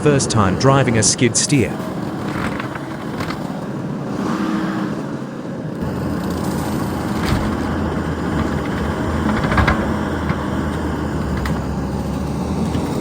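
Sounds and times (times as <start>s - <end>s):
skid steer engine under load: 0.0s - 13.0s.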